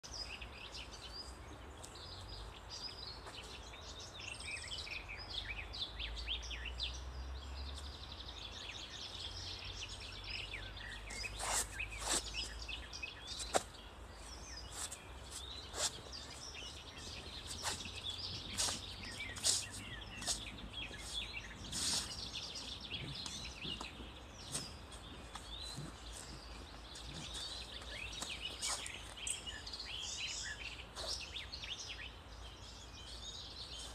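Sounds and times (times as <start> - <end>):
songbirds singing and chirping: 0.0 - 33.9.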